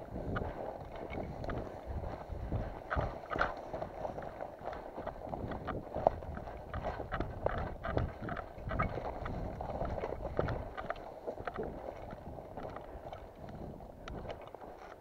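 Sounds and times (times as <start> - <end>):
footsteps crunching on rough ground: 0.0 - 15.0.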